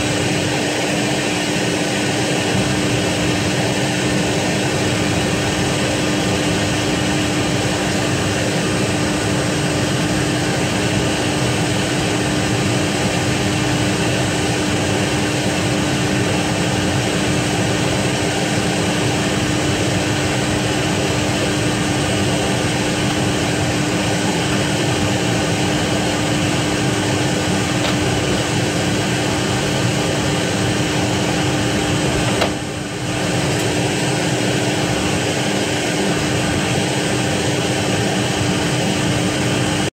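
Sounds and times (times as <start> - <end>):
jet turbine running: 0.0 - 39.9.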